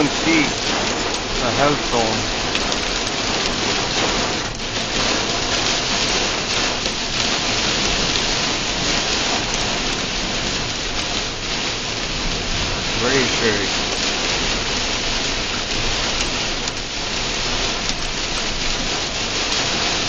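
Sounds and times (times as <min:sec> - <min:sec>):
heavy rain on car roof: 0:00.0 - 0:20.0.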